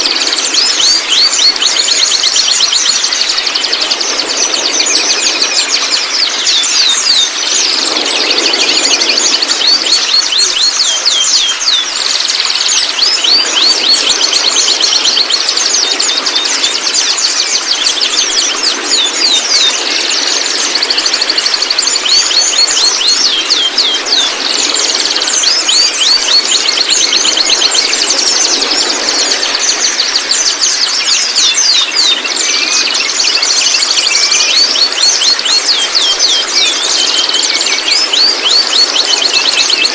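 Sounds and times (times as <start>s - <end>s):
bird singing trills: 0.0s - 39.9s.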